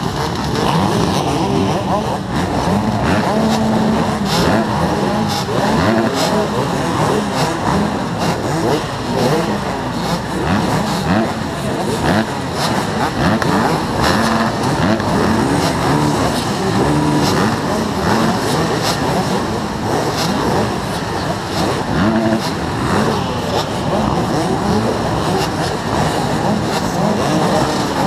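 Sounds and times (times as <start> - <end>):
motocross engines revving: 0.0 - 28.0.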